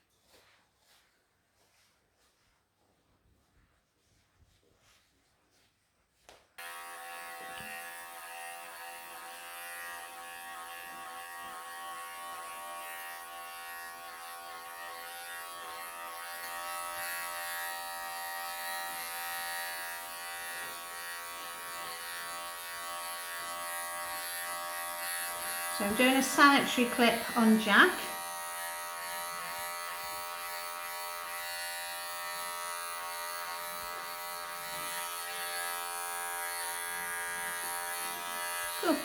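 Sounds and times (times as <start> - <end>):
electric clippers buzzing: 6.6 - 39.0.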